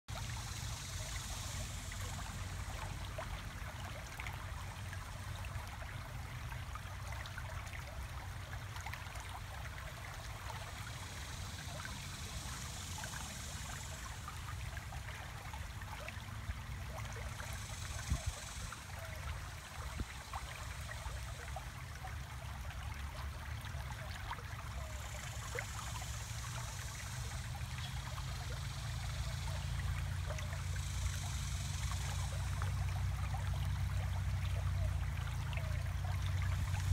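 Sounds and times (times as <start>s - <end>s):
creek water babbling: 0.1s - 36.9s.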